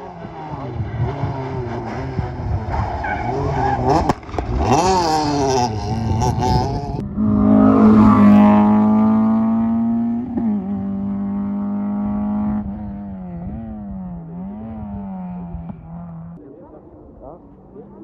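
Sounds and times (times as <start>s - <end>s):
rally car engine revving high: 0.0s - 16.4s
rally car driving away: 0.0s - 18.0s.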